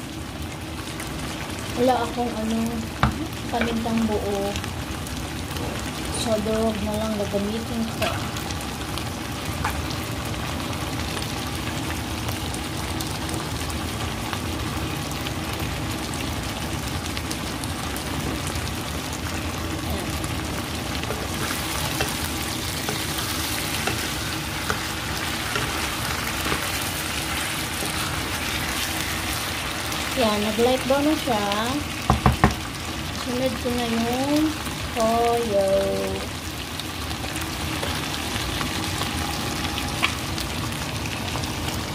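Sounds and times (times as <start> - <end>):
chicken frying in hot oil: 0.0 - 41.9.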